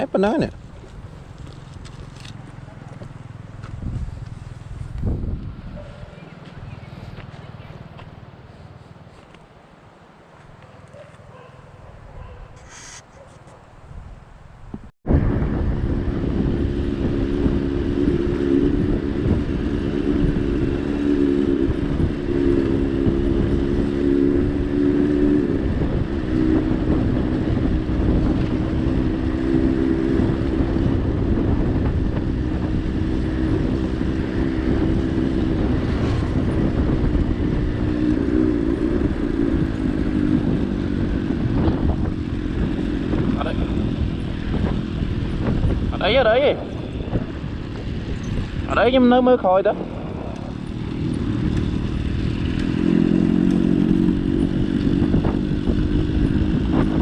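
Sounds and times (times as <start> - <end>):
vehicle engine running: 0.0 - 9.0, 15.1 - 57.0
wind rumble: 3.0 - 10.3, 13.7 - 57.0.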